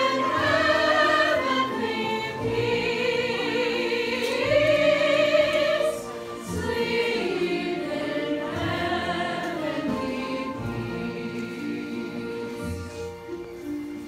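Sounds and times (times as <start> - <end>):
choir singing held notes: 0.0 - 14.0.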